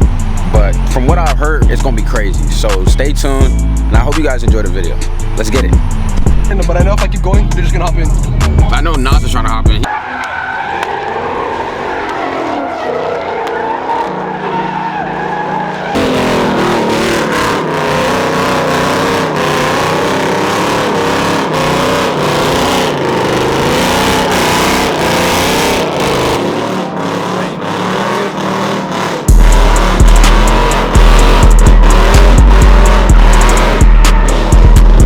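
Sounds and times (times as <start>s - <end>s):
car tires squealing: 0.0s - 7.0s, 9.8s - 35.0s
car engine revving: 0.0s - 35.0s.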